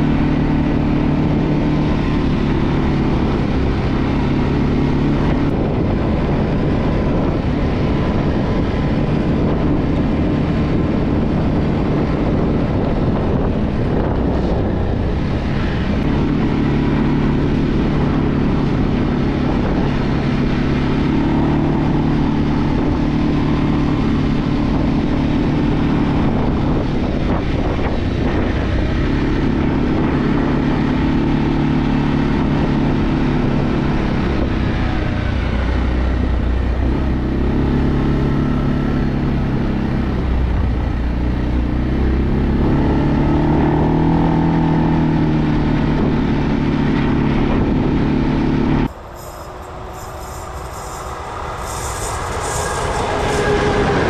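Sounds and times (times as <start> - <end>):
atv engine cruising: 0.0 - 54.0.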